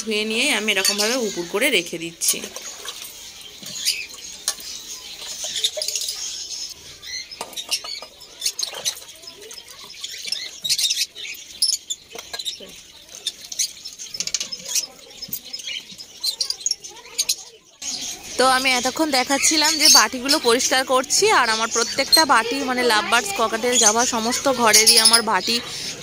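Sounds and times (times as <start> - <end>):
bowls rinsed in water: 0.0 - 17.0, 17.8 - 26.0
small birds chirping: 0.0 - 26.0.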